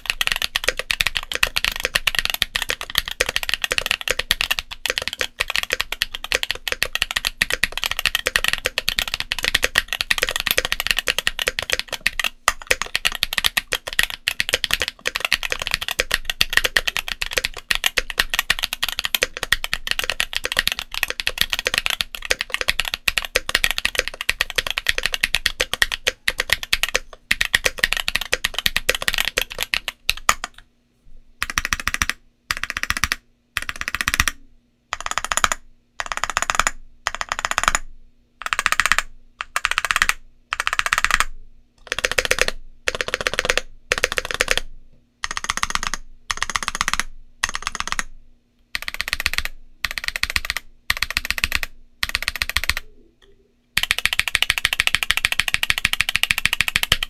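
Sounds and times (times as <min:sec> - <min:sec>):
mechanical keyboard typing: 0:00.0 - 0:30.6, 0:31.4 - 0:48.1, 0:48.7 - 0:52.9, 0:53.8 - 0:57.0.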